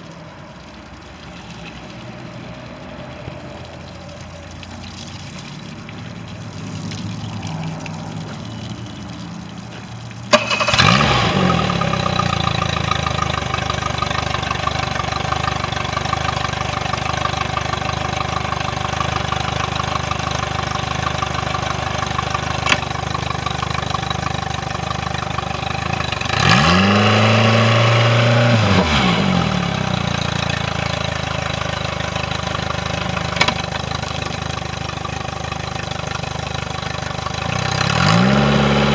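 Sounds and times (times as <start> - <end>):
outboard motor starting and idling: 0.0 - 38.9.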